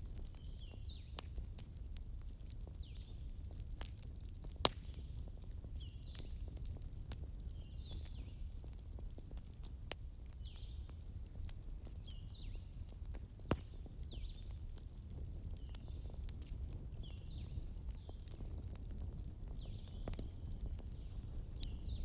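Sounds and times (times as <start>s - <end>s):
fire popping: 0.0s - 22.0s
wood fire crackling: 0.0s - 22.0s.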